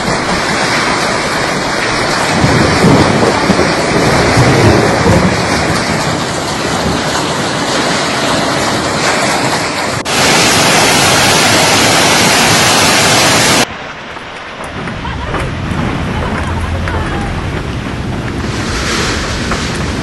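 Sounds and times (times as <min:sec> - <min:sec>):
hail and rain falling: 0:00.0 - 0:20.0.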